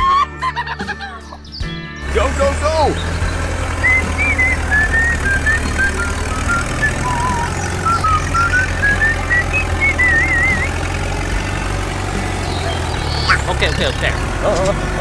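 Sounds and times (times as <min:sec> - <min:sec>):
low engine rumble: 0:01.9 - 0:15.0.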